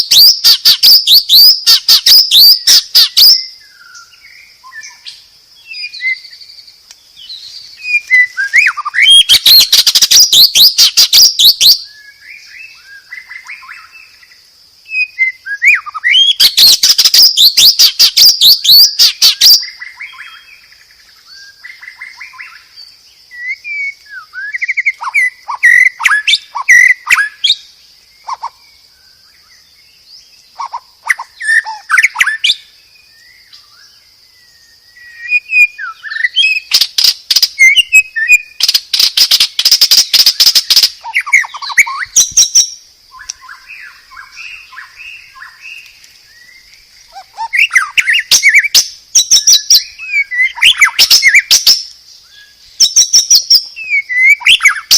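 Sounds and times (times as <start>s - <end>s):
bird singing whistled phrases: 0.0s - 6.6s, 7.2s - 54.9s.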